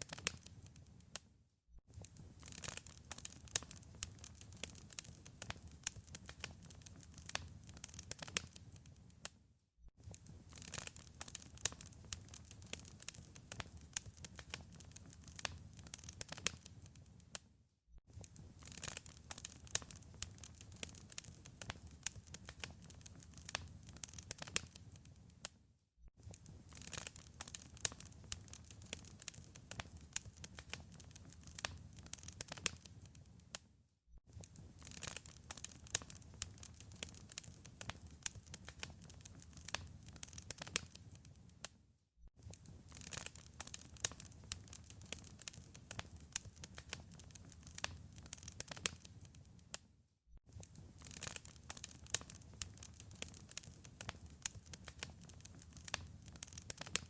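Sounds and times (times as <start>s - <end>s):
wood fire crackling and popping: 0.0s - 1.2s, 1.9s - 9.3s, 10.0s - 17.4s, 18.1s - 25.5s, 26.2s - 33.6s, 34.3s - 41.6s, 42.4s - 49.8s, 50.5s - 57.0s.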